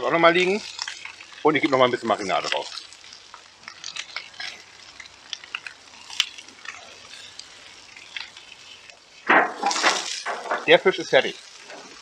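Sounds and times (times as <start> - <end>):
fish sizzling on hot plate: 0.0 - 12.0.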